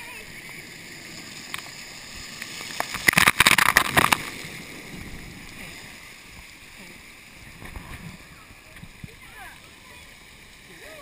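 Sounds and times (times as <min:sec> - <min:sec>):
moving water: 0:00.0 - 0:11.0
water spray splashing: 0:00.0 - 0:11.0.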